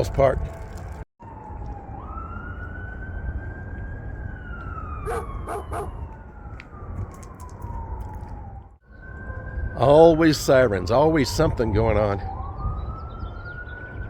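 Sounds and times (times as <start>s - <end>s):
wind rumble on microphone: 0.0s - 14.0s
distant siren wailing: 1.2s - 14.0s.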